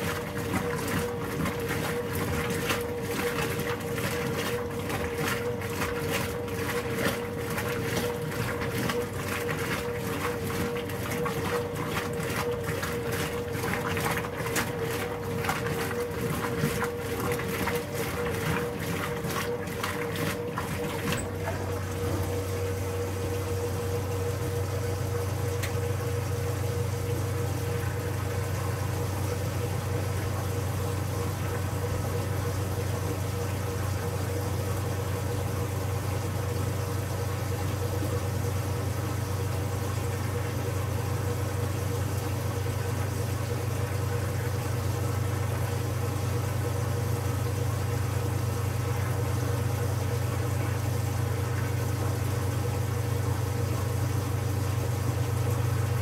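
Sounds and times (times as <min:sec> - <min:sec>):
washer motor and pump humming: 0:00.0 - 0:56.0.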